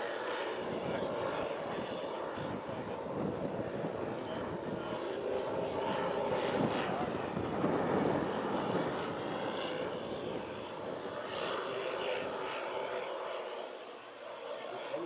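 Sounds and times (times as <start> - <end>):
model aircraft engines droning: 0.0 - 15.0.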